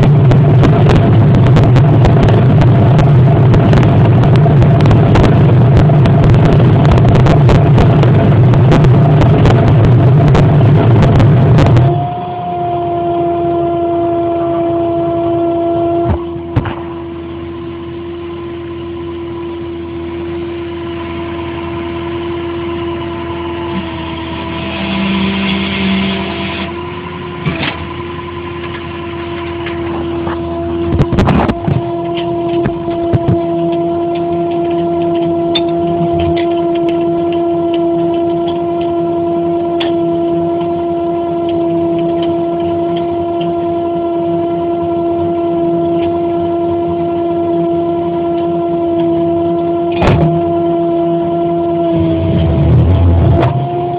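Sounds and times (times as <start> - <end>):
truck mechanical drone and whine: 0.0 - 53.9.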